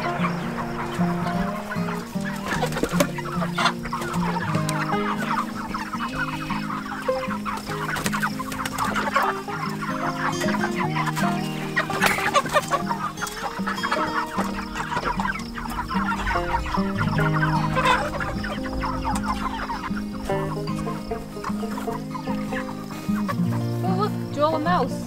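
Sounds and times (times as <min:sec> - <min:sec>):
background music with held notes: 0:00.0 - 0:25.0
chickens clucking: 0:00.0 - 0:25.0.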